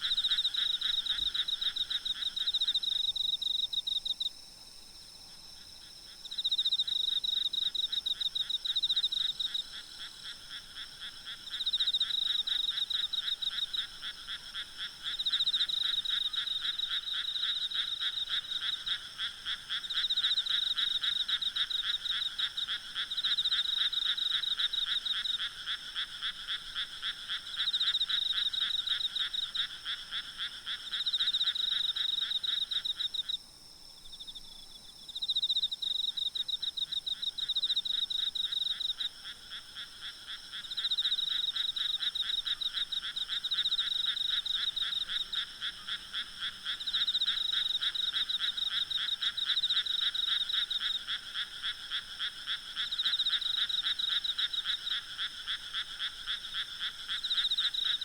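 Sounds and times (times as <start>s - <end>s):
frogs croaking in chorus: 0.0s - 58.0s.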